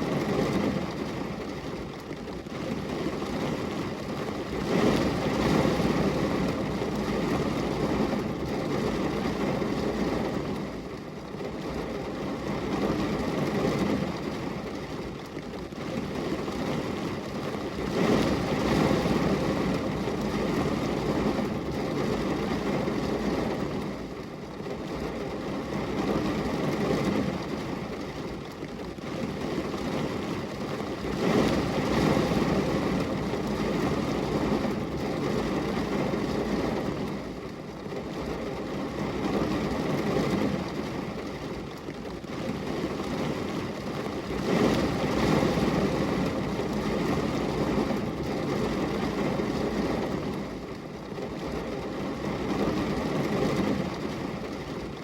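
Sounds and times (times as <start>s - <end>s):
rain on a glass window: 0.0s - 55.0s.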